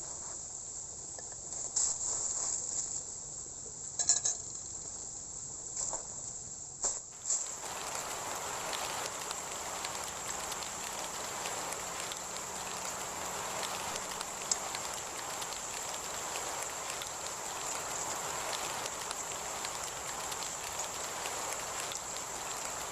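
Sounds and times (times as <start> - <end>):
steady rain drops: 0.7 - 22.9.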